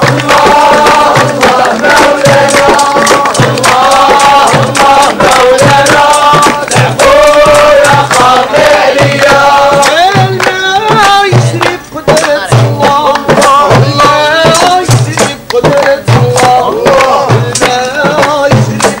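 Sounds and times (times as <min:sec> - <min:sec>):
steady percussion beat: 0:00.0 - 0:19.0
voices singing a chant-like song: 0:00.0 - 0:19.0.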